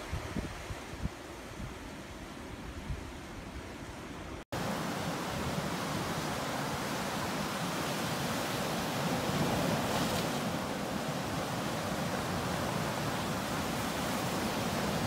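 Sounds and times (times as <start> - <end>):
sea waves breaking on shore: 0.0 - 15.0.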